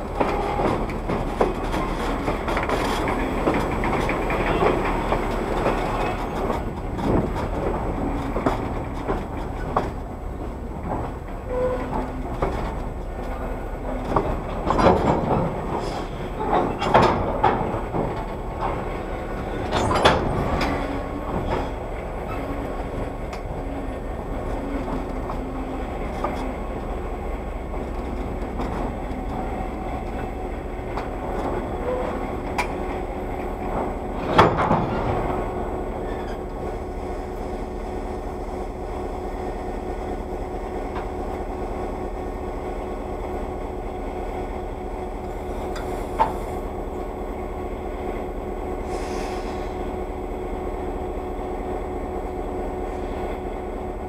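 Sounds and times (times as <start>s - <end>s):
train car rumbling on track: 0.0s - 54.0s.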